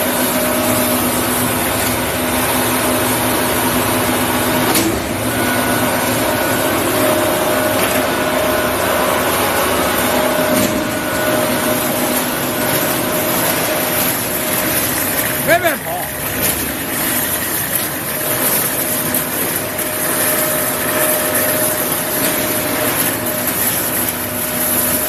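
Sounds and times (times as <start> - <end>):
steady mechanical whir: 0.0 - 25.0.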